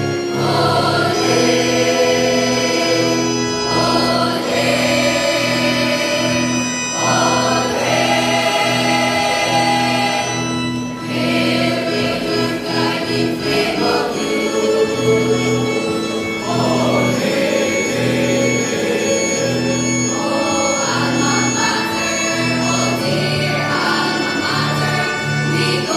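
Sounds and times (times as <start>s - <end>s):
mixed choir singing: 0.0s - 25.9s.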